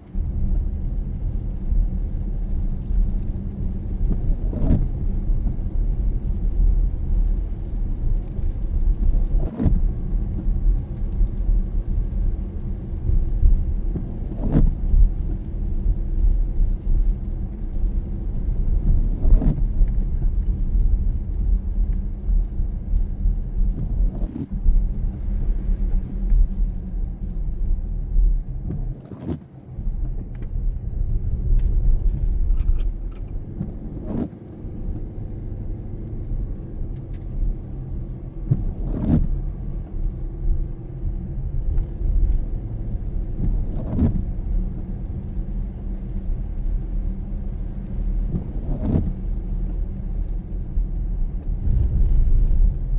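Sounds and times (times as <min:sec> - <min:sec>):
car road and engine rumble: 0:00.0 - 0:52.9
windshield wiper sweep: 0:03.3 - 0:52.9.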